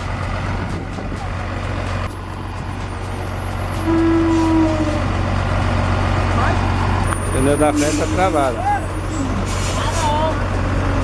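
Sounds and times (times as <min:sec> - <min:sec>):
truck diesel engine humming: 0:00.0 - 0:11.0.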